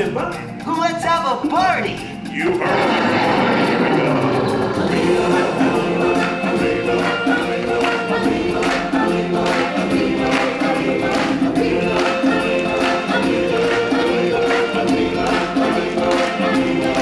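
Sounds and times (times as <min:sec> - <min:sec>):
musical backing: 0:00.0 - 0:17.0
choir singing: 0:02.6 - 0:17.0.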